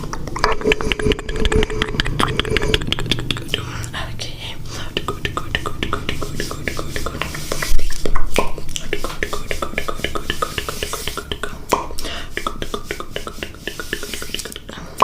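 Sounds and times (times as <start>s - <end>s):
wet tongue and lip clicks: 0.0s - 4.0s, 5.0s - 15.0s.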